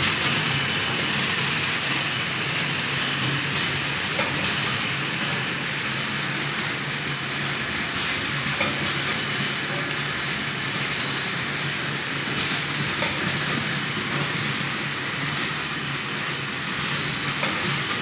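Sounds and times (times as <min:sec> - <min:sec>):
machine running with steady hiss: 0:00.0 - 0:18.0.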